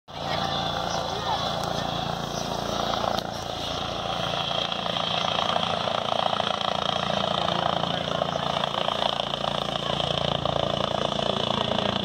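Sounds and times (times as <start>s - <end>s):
helicopter rotors chopping: 0.1s - 12.0s.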